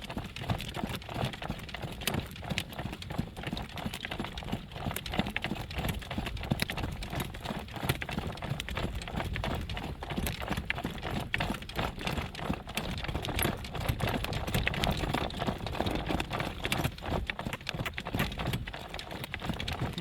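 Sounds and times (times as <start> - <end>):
horse hooves clip-clopping on road: 0.0 - 20.0.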